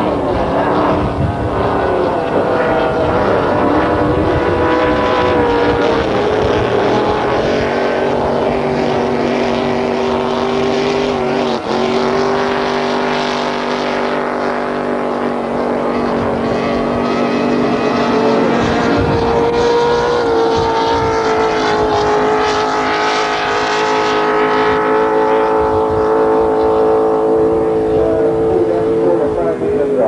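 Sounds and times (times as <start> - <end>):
racing powerboat engines: 0.0 - 30.0.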